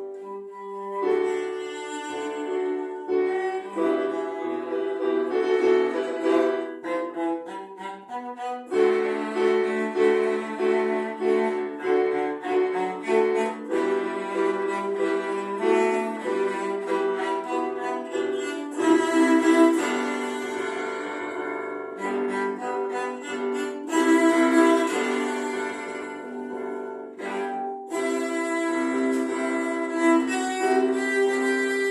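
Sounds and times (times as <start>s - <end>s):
violin melody: 0.0s - 31.9s.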